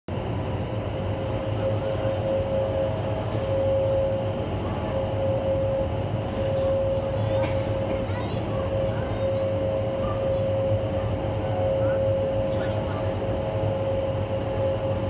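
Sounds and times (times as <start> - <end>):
steady humming tone: 0.1 - 15.0
wind tunnel fans roaring: 0.1 - 15.0.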